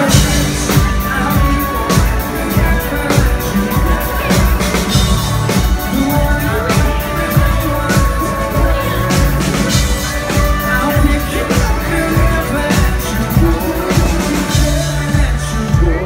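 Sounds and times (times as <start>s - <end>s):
drum kit beat: 0.0s - 16.0s
live band playing country-pop: 0.0s - 16.0s
man singing: 0.0s - 16.0s.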